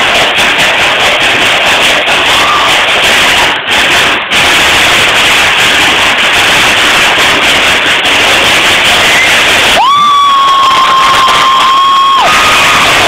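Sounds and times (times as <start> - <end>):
percussion ensemble drumming fast: 0.0 - 13.0.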